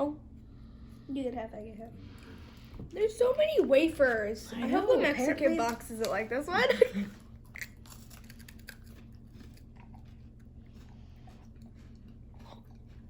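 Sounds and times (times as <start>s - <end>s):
low steady hum: 0.0s - 13.0s
chewing and crunching cookie: 1.9s - 13.0s.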